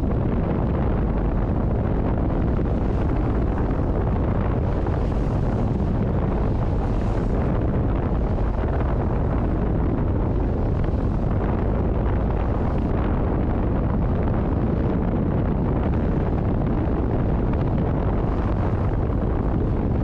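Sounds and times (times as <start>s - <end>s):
sea rushing along a hull: 0.0s - 20.0s
wind buffeting the microphone: 0.0s - 20.0s.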